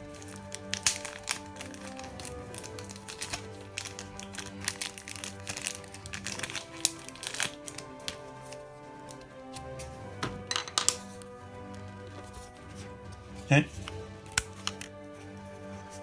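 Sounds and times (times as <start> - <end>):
plastic packaging crinkling: 0.0 - 12.6, 13.9 - 14.9
background music with held notes: 0.0 - 16.0.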